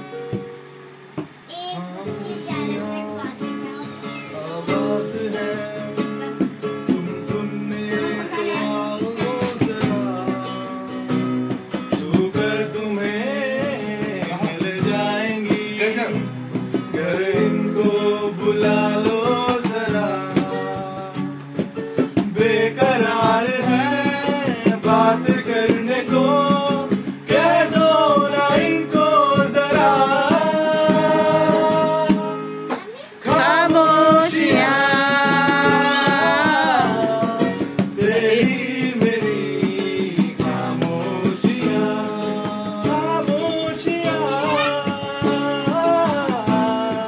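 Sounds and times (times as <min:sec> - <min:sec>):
strummed acoustic guitar: 0:00.0 - 0:47.0
two men singing: 0:04.1 - 0:47.0.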